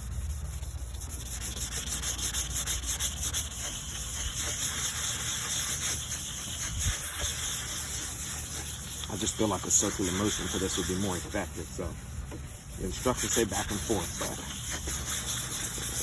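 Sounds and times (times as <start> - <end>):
sandpaper rasping on plastic: 0.0 - 16.0.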